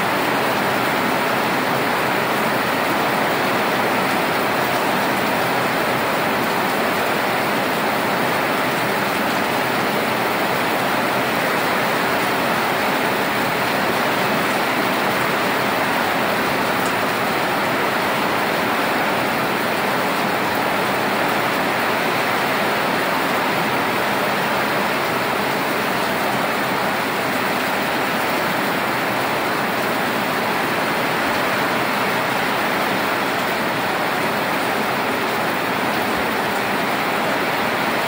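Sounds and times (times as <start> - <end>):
rain pouring down: 0.0 - 38.0.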